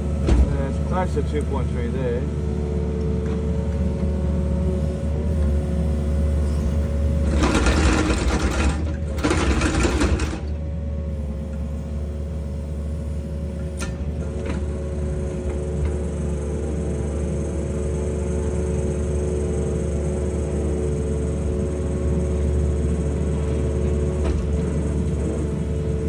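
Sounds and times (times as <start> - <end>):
excavator engine with hydraulic whine: 0.0 - 26.0.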